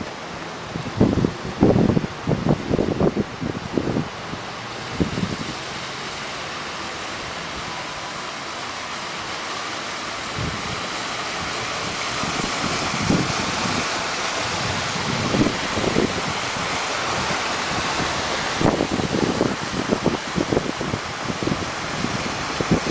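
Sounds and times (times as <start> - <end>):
typhoon wind rushing: 0.0 - 22.9
wind gusts buffeting microphone: 0.0 - 22.9.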